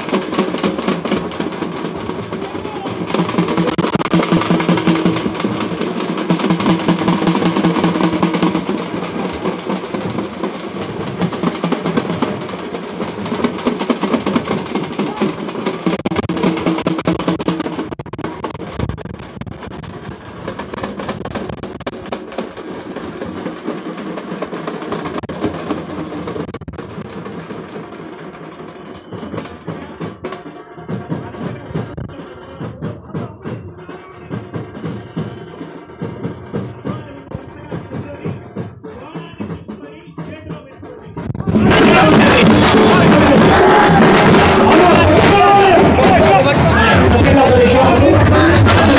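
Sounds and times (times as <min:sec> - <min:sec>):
crowd voices: 0:00.0 - 0:21.2, 0:22.2 - 0:48.9
music: 0:00.0 - 0:48.9
procession drums beaten fast: 0:00.0 - 0:48.9.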